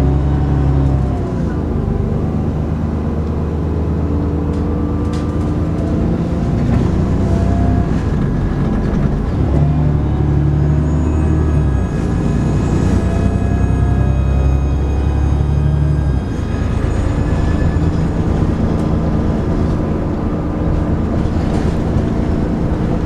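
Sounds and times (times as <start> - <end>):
bus engine running under load: 0.0 - 23.0
high engine whine: 0.0 - 23.0.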